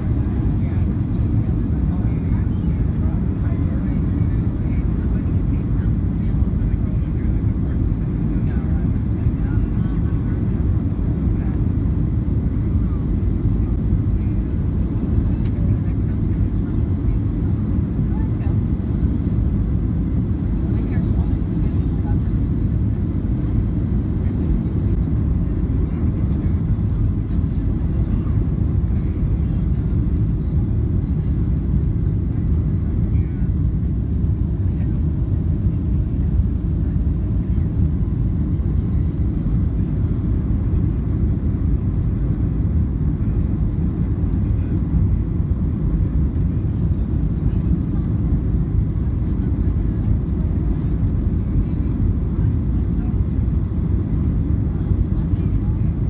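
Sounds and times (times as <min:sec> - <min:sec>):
airliner engine rumble: 0:00.0 - 0:56.0.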